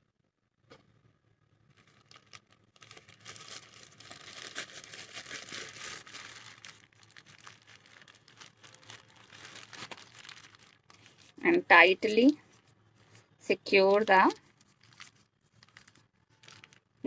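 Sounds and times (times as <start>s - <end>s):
plastic bag crinkling: 1.7s - 17.0s.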